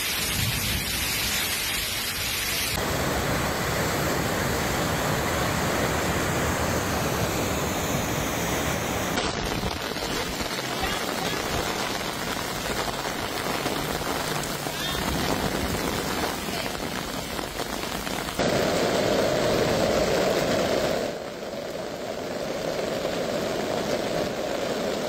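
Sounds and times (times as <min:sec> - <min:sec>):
floodwater pouring into river: 0:00.0 - 0:25.0
rain and running water: 0:00.0 - 0:25.0.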